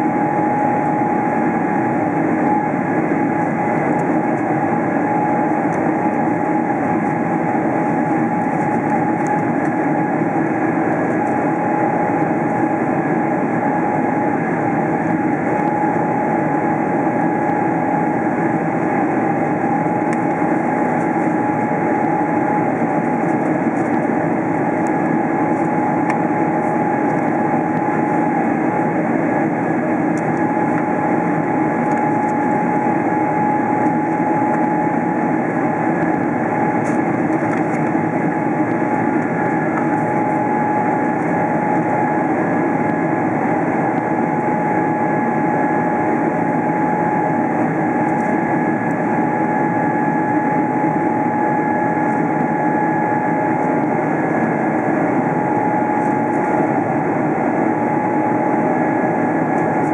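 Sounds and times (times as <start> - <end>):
jet engine whine: 0.0 - 59.9
jet engines and airflow rush: 0.0 - 59.9.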